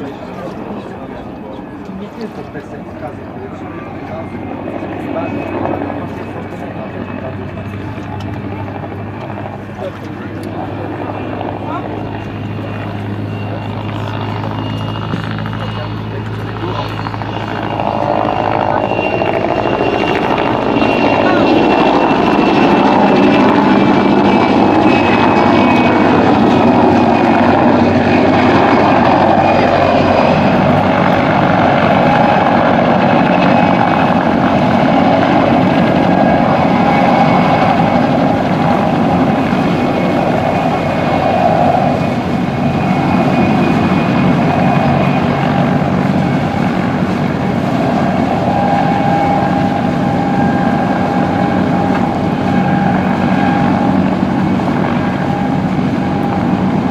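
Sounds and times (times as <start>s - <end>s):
helicopter rotor and engine: 0.0s - 56.9s.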